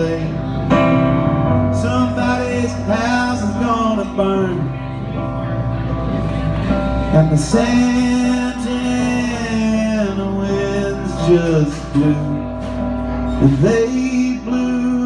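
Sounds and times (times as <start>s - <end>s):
live band playing instrumental: 0.0s - 15.0s.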